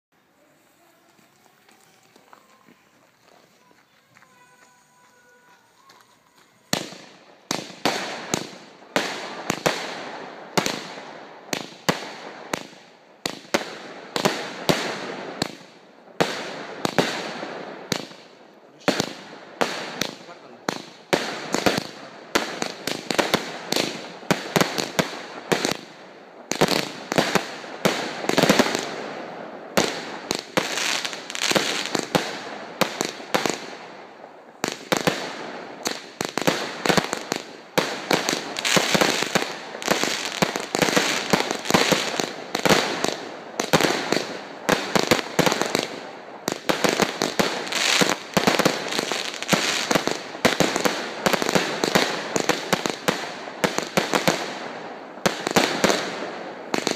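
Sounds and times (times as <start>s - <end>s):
fireworks bursting and crackling: 0.1s - 56.9s.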